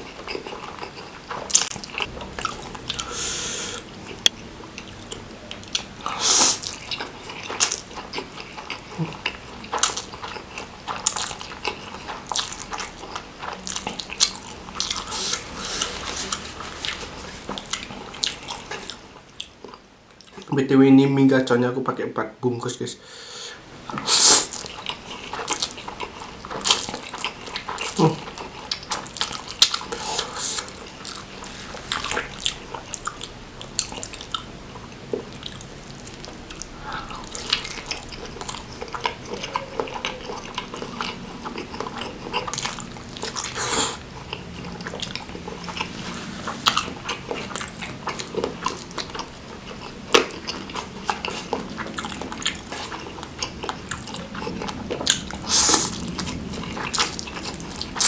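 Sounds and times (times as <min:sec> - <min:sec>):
person chewing noodles: 0:00.0 - 0:20.5, 0:23.9 - 0:58.0.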